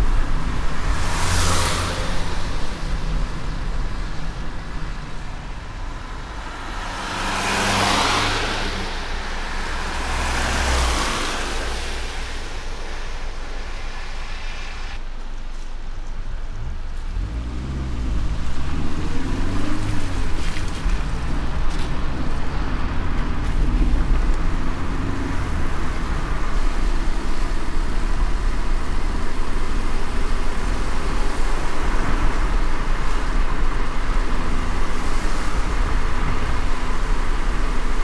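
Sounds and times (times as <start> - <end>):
car road noise: 0.0 - 38.0
rain hiss: 0.0 - 38.0.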